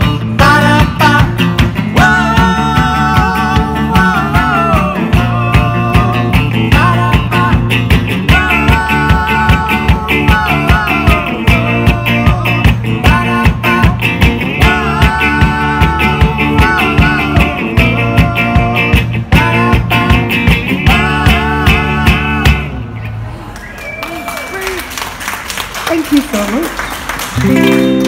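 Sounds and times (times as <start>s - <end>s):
steady drum beat: 0.0s - 22.7s
electric guitar: 0.0s - 23.2s, 27.2s - 28.0s
electric bass: 0.0s - 23.8s, 27.2s - 28.0s
man and woman singing wordlessly: 0.3s - 22.8s.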